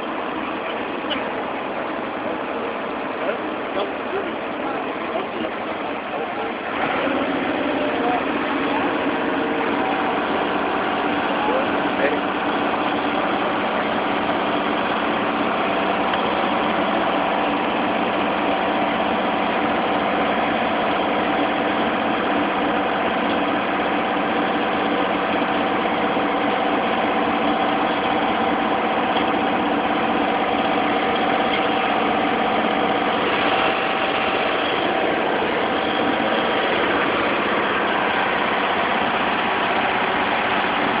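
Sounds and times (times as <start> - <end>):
engine idling: 0.0 - 41.0.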